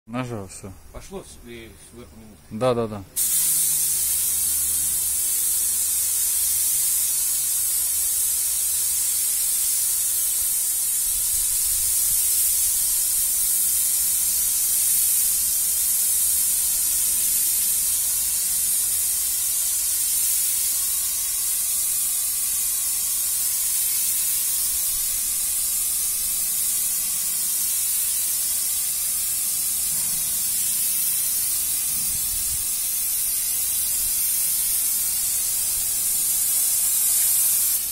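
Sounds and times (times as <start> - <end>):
spray gun hissing: 3.2 - 37.9.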